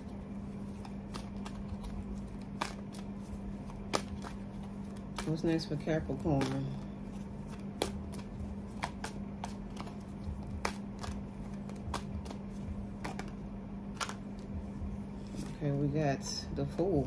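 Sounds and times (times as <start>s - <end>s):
cards being shuffled: 0.0s - 15.7s
low hum: 0.0s - 17.0s.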